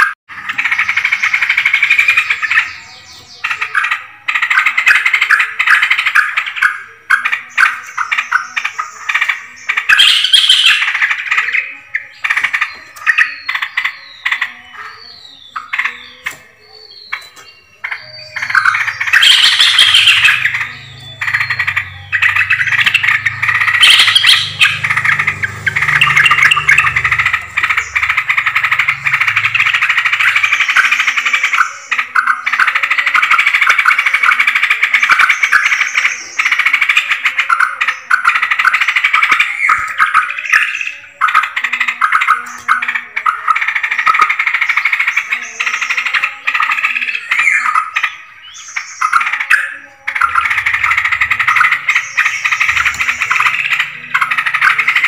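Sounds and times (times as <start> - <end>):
dense bird chattering chorus: 0.0 - 55.0.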